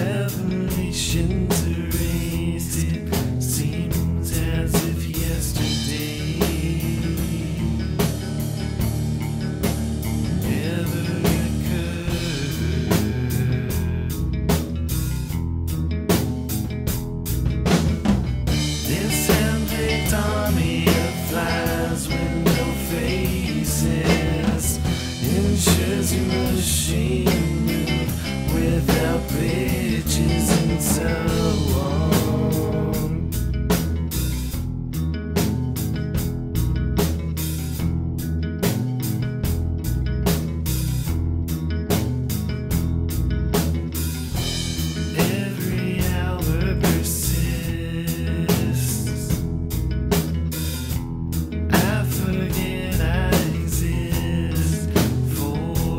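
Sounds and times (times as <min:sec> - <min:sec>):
rock song with guitars and drums: 0:00.0 - 0:55.9.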